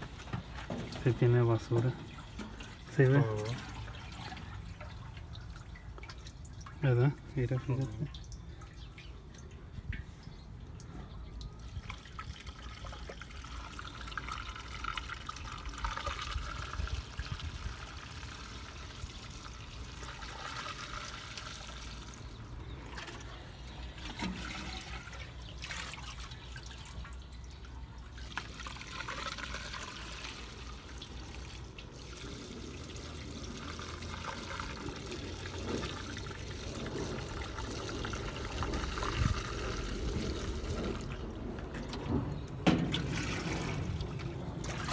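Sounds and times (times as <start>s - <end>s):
oil pouring into metal tub: 0.0s - 9.6s, 11.6s - 44.9s.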